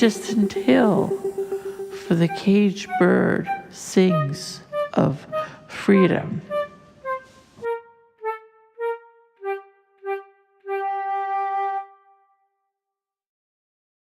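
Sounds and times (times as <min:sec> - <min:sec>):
solo woodwind melody: 0:00.0 - 0:12.5.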